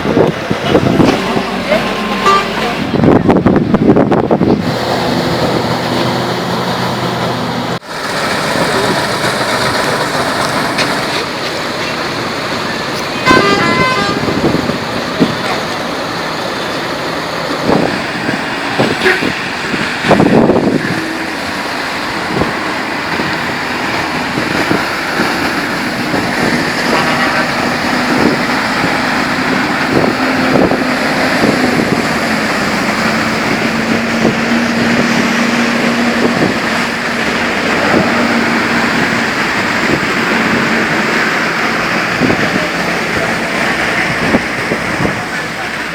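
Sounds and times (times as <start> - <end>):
vehicles passing: 0.0 - 45.9.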